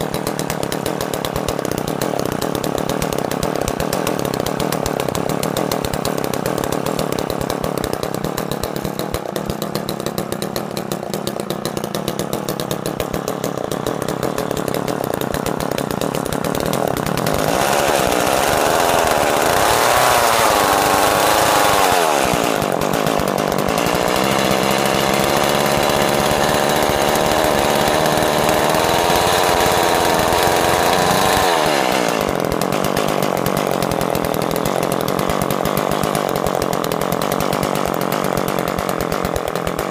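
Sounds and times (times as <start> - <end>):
ice auger engine idling and revving: 0.0 - 39.9.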